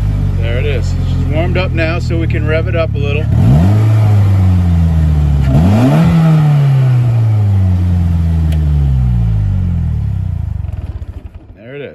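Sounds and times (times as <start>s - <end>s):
engine throttle blip: 0.0s - 11.6s.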